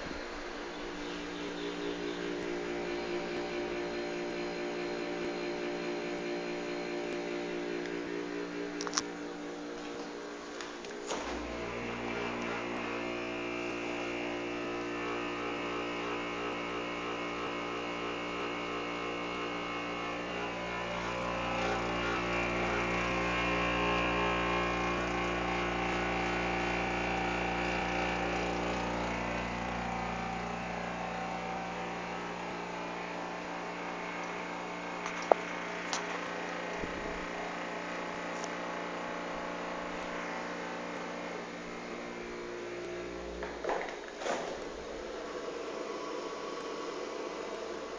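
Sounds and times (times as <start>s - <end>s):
refrigerator droning: 0.0s - 47.9s.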